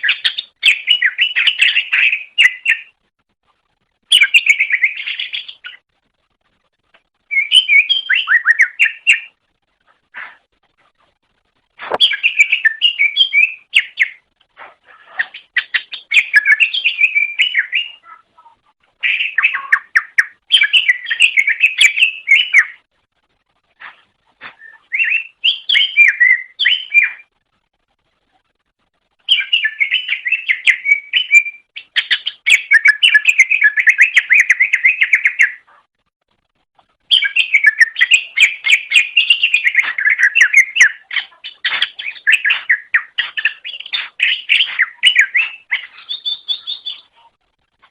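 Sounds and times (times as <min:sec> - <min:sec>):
bird chirping and warbling: 0:00.0 - 0:03.0, 0:04.0 - 0:05.8, 0:07.2 - 0:09.4, 0:11.8 - 0:22.9, 0:23.8 - 0:27.3, 0:29.2 - 0:35.7, 0:37.1 - 0:47.4.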